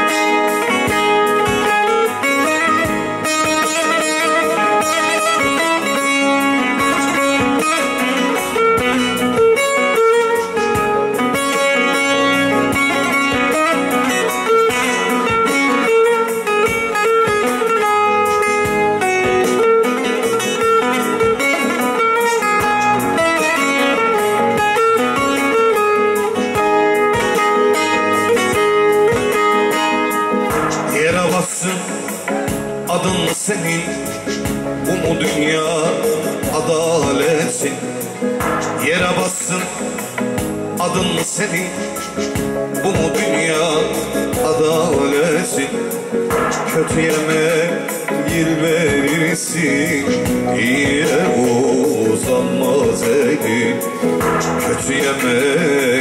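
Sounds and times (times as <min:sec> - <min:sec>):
keyboard backing: 0:00.0 - 0:56.0
long-necked lute strummed fast: 0:00.0 - 0:56.0.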